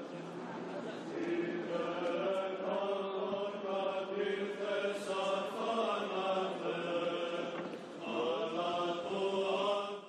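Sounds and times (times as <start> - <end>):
choir chanting: 1.1 - 10.0.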